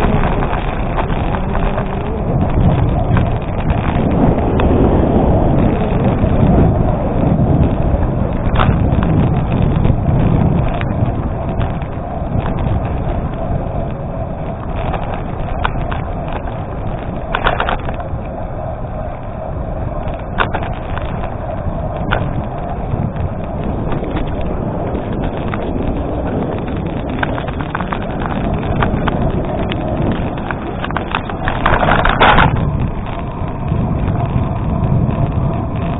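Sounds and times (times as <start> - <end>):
bike clicks and rattles: 0.0 - 18.6, 19.4 - 35.9
bike tyres on gravel: 0.0 - 35.9.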